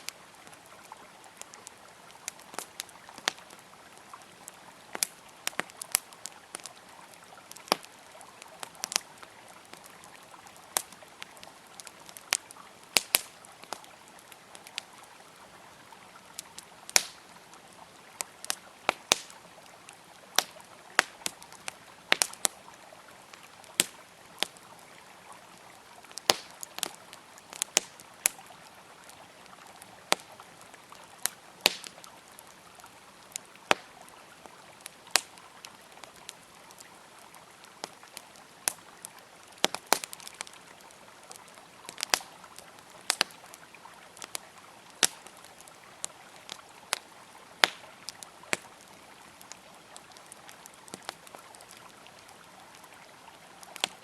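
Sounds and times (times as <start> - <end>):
campfire crackling and popping: 0.0 - 54.0
river flowing: 0.0 - 54.0.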